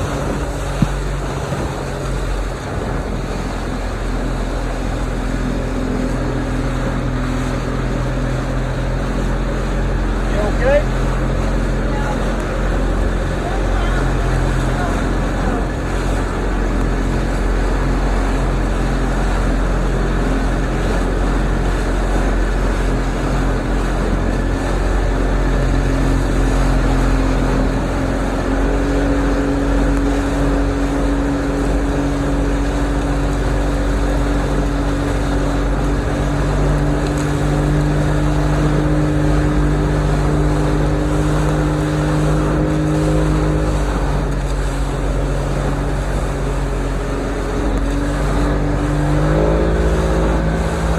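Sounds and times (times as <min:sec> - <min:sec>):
motorboat engine running: 0:00.0 - 0:50.9
rushing water and hull noise: 0:00.0 - 0:50.9.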